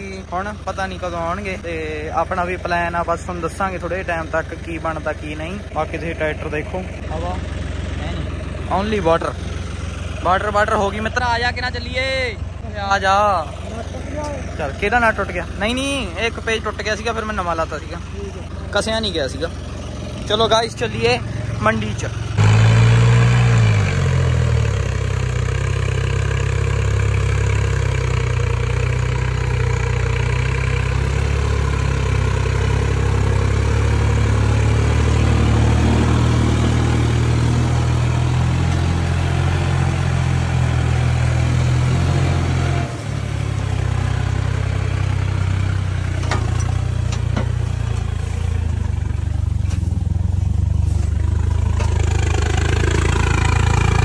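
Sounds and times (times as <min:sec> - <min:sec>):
tractor diesel engine running hard: 0:00.0 - 0:54.0.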